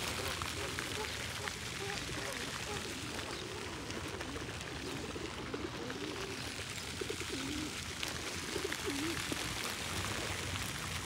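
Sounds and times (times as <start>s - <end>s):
birds cooing: 0.3s - 9.5s.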